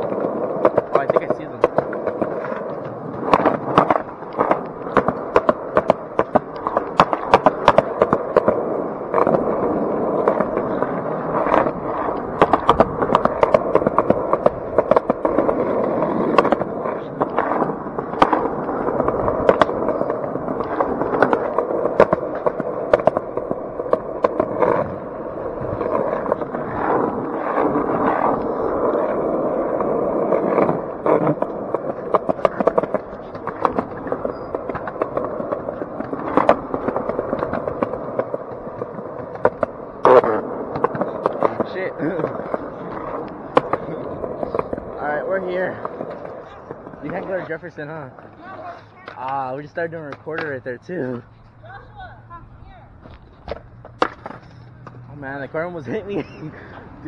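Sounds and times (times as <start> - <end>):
skateboard wheels clacking over joints: 0.0 - 57.0
skateboard wheels rolling on concrete: 0.0 - 57.0.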